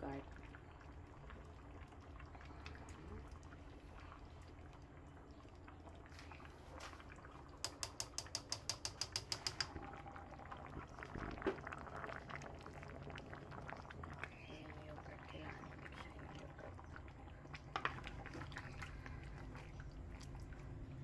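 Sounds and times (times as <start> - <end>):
sauce simmering in a pan: 0.0 - 21.0.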